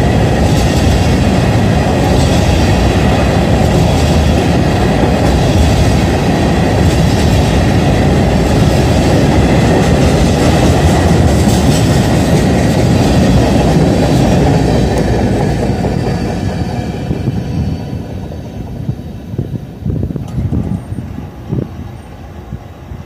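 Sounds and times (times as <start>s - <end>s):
freight train wheels rumbling on track: 0.0s - 23.0s.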